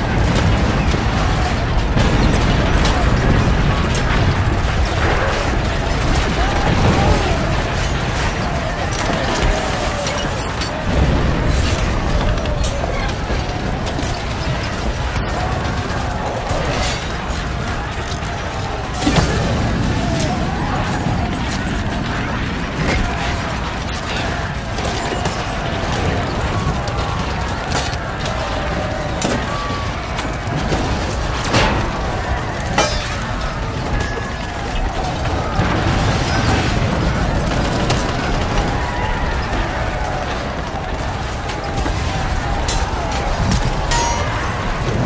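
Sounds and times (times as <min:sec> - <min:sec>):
dense din of war noise: 0:00.0 - 0:45.0
voices yelling: 0:00.0 - 0:45.0.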